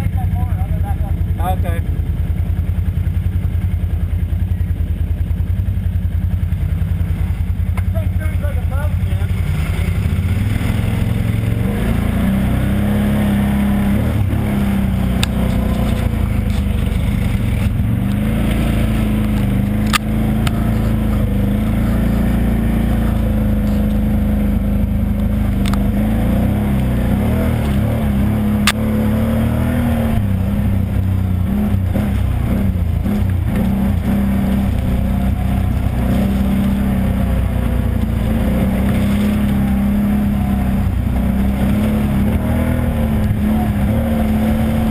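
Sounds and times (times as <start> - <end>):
atv engine running under load: 0.0 - 44.9.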